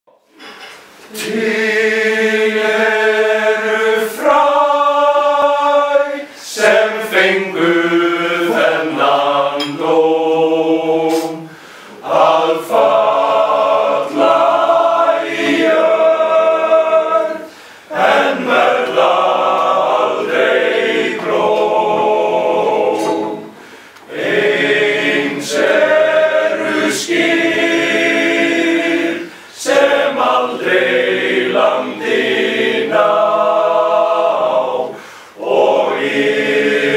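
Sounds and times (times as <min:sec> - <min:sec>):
male choir singing unaccompanied: 0:01.1 - 0:36.9.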